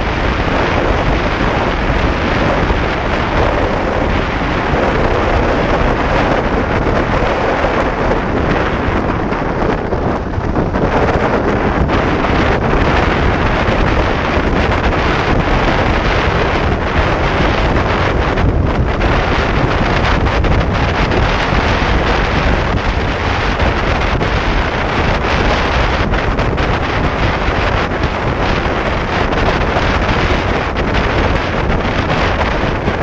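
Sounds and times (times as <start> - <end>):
motorcycle engine: 0.0 - 33.0
road noise: 0.0 - 33.0
wind roaring over microphone: 0.0 - 33.0.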